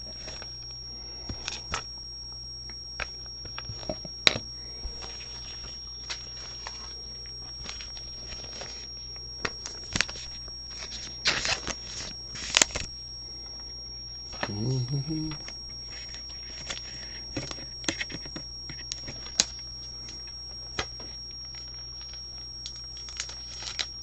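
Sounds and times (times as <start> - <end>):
electrical whine and hum: 0.0 - 24.0.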